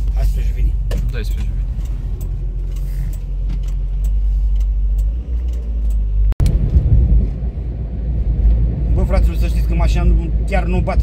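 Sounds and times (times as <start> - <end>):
car engine hum inside cabin: 0.0 - 11.0
road rumble: 0.0 - 11.0.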